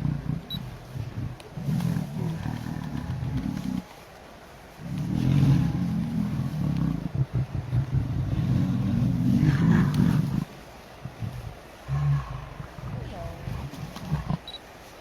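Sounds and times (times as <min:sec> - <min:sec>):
lion purring: 0:00.0 - 0:14.6.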